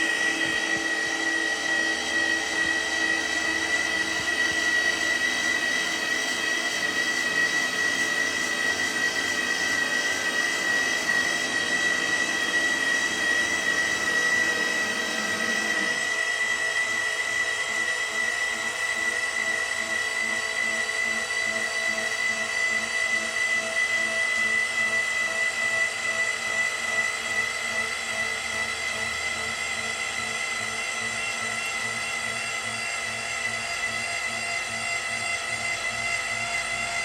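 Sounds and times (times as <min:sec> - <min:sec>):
small electric motor whining: 0:00.0 - 0:37.0.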